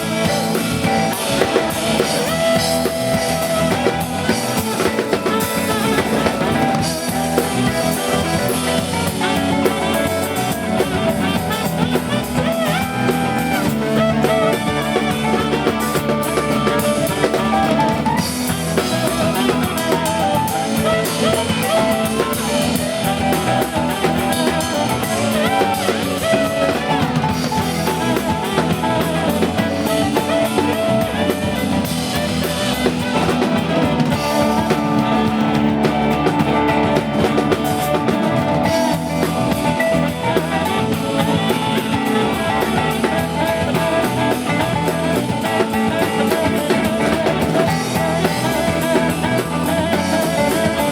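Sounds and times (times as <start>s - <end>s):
drum kit beat: 0.0s - 50.9s
live band playing: 0.0s - 50.9s.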